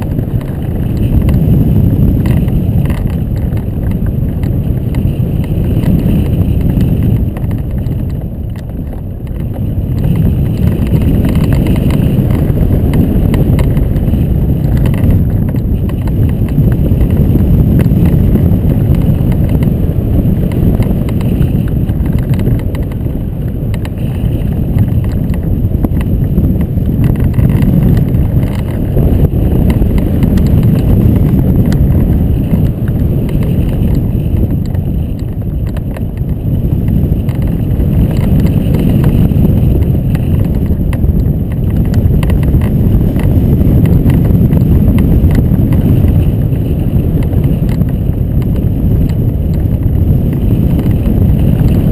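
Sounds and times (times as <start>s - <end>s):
wind buffeting camera: 0.0s - 51.9s.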